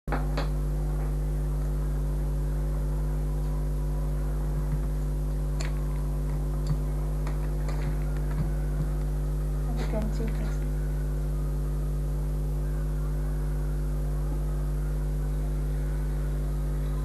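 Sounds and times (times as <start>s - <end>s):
low electrical mains hum: 0.0s - 17.0s.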